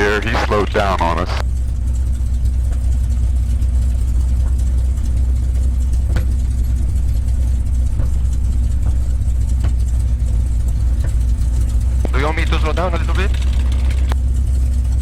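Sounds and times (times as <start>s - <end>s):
aircraft engine droning: 0.0s - 15.0s.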